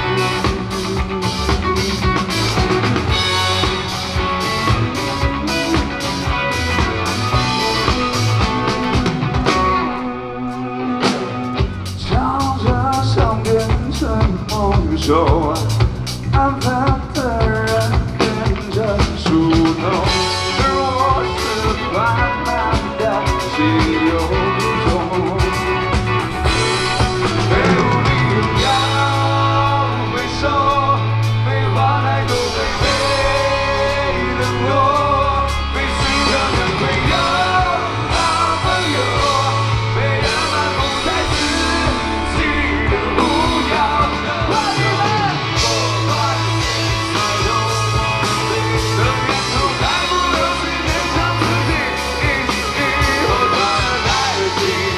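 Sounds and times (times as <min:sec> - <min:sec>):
bass guitar: 0:00.0 - 0:54.9
drum kit: 0:00.0 - 0:54.9
electric guitar: 0:00.0 - 0:54.9
person singing: 0:00.0 - 0:54.9.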